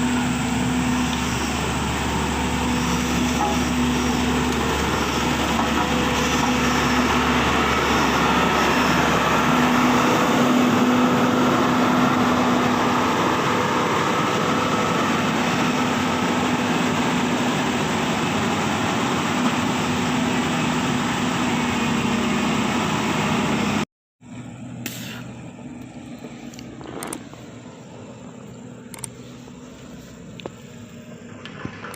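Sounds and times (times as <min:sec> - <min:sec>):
diesel machinery engine running: 0:00.0 - 0:31.9.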